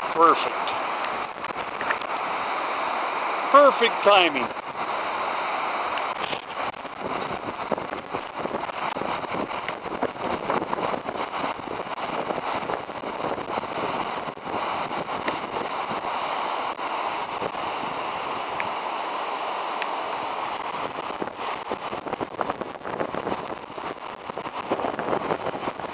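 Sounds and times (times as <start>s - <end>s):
muddy water rushing: 0.0s - 25.9s.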